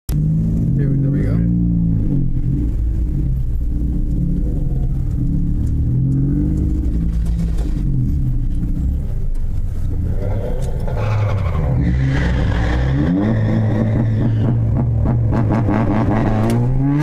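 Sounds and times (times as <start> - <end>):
car engine revving: 0.1 - 17.0.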